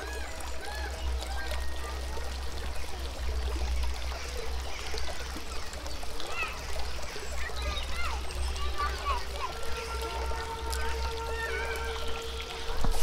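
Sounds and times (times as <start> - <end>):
water pouring: 0.0 - 13.0.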